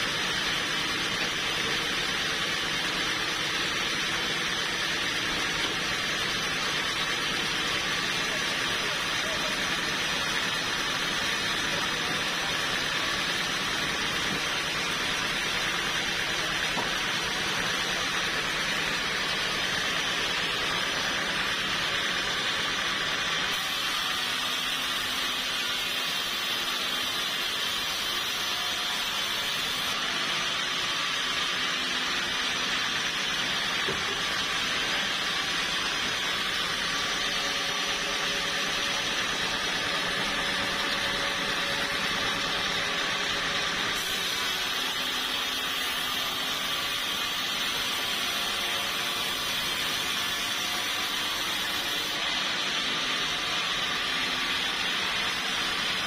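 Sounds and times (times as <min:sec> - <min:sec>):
sawmill machinery hissing: 0:00.0 - 0:56.0.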